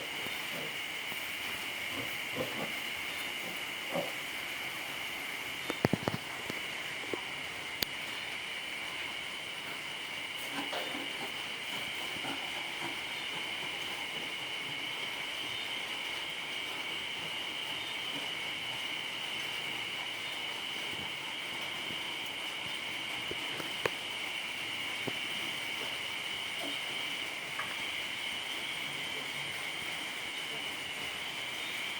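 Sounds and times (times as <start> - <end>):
light drizzling rain: 0.0 - 31.9.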